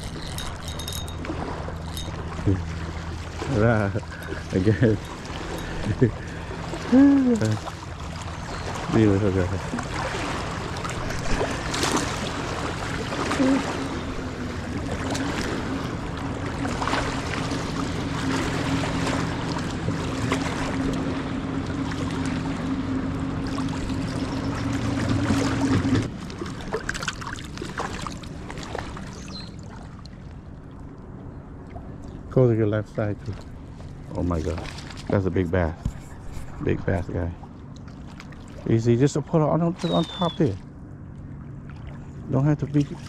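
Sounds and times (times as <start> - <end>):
small boat motor running: 0.0 - 43.0
water and rustle noise: 0.0 - 43.0.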